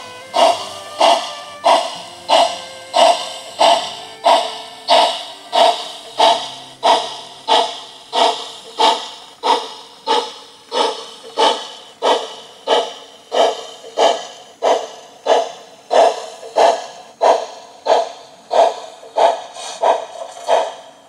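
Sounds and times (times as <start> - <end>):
model steam locomotive chuffing: 0.0 - 21.0.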